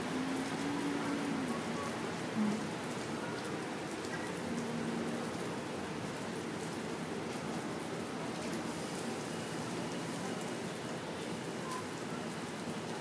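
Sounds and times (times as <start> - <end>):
rain on wet paving: 0.0 - 13.0.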